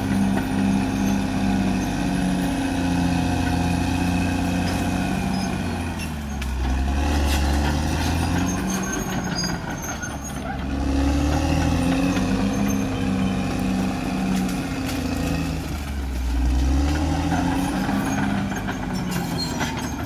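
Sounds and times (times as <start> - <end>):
bulldozer diesel engine working: 0.0 - 20.0.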